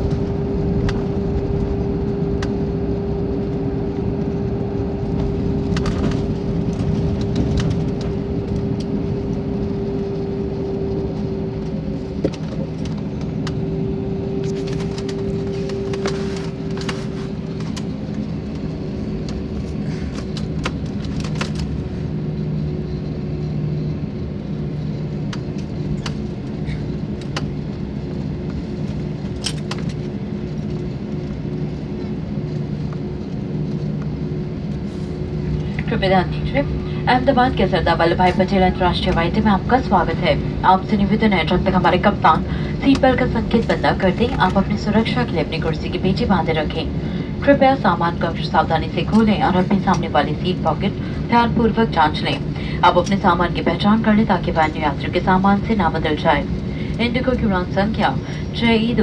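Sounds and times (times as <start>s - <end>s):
jet engines rumbling: 0.0s - 59.0s
steady hum tone: 0.0s - 59.0s.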